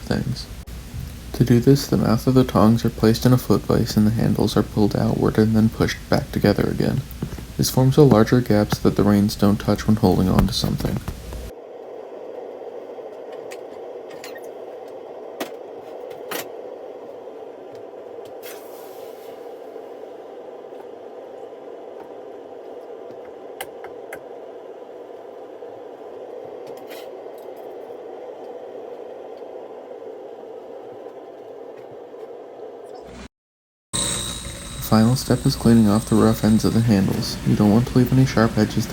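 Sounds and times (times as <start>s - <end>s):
shop noise hum: 0.0s - 33.3s, 34.0s - 38.9s.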